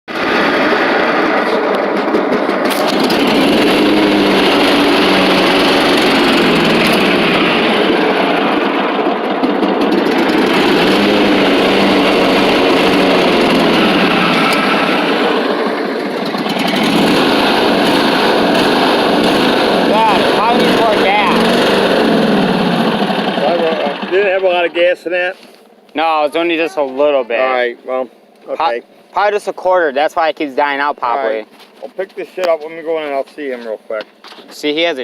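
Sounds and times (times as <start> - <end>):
lawn mower engine running: 0.1 - 29.7.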